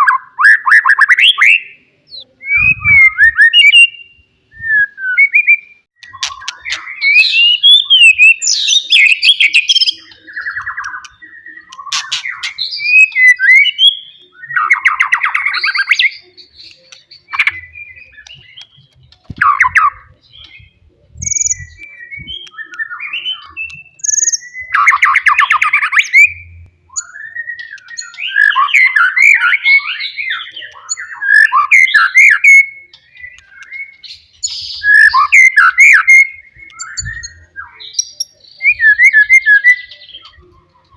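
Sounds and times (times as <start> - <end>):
bird singing whistles: 0.0 - 18.8, 19.4 - 40.5.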